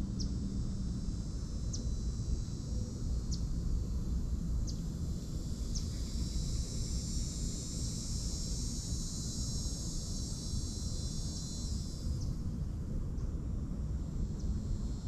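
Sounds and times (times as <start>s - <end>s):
insect hum: 0.0s - 15.0s.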